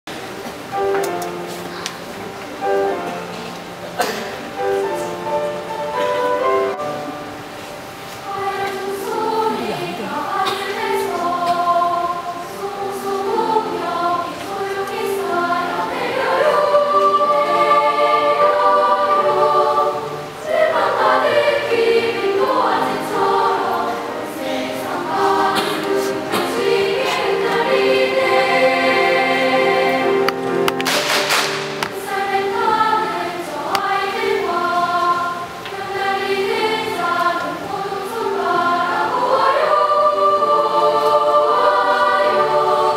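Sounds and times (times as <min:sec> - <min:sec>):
children's choir singing: 0:00.1 - 0:42.9.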